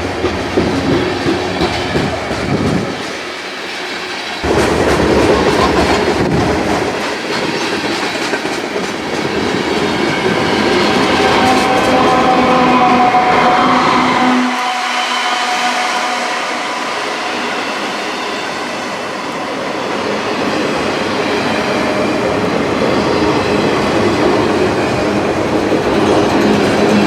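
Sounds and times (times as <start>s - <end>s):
train wheels clattering on rails: 0.0s - 13.6s, 16.5s - 27.0s.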